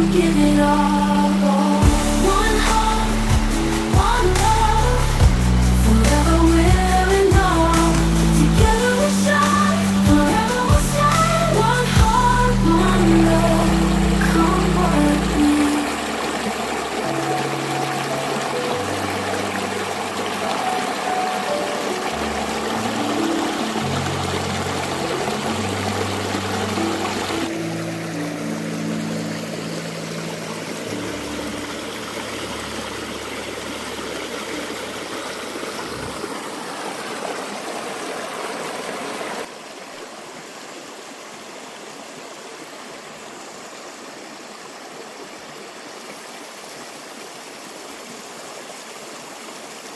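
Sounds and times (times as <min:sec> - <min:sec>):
stream rushing: 0:00.0 - 0:49.9.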